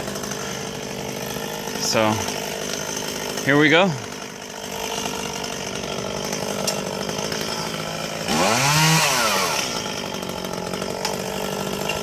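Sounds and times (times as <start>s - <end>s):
chainsaw idling and revving: 0.0s - 12.0s.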